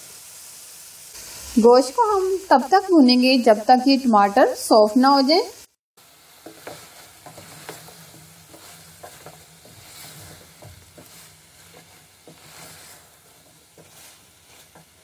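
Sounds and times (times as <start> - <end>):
meat and tomatoes sizzling in oil: 0.0 - 15.0.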